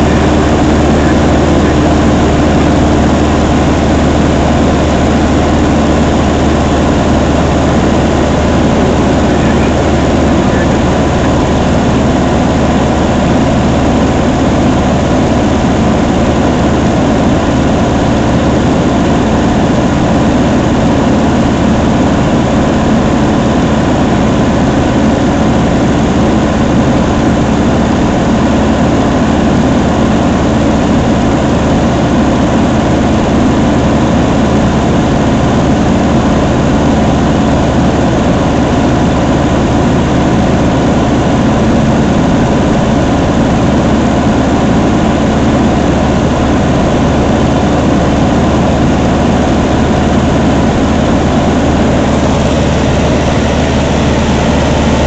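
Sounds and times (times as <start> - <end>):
airplane engine and propeller drone: 0.0 - 55.0.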